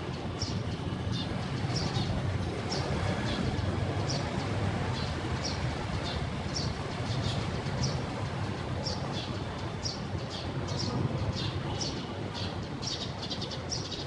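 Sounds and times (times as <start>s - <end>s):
steady low rumble and hiss: 0.0s - 14.0s.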